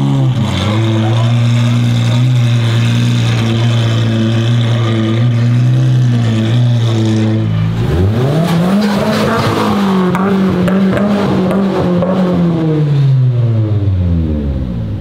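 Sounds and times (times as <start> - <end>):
loud car engine running: 0.0 - 15.0.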